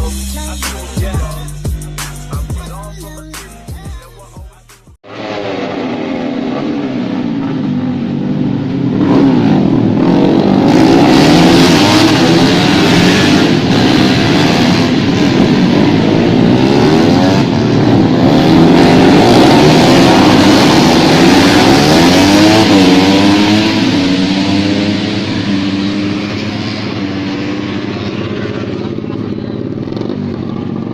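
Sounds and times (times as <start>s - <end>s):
racing motorcycle engines revving: 0.0s - 30.9s.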